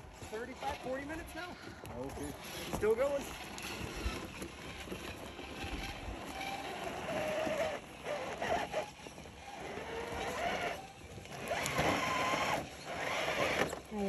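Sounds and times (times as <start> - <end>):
electric motor and gearbox whining: 0.0 - 14.0.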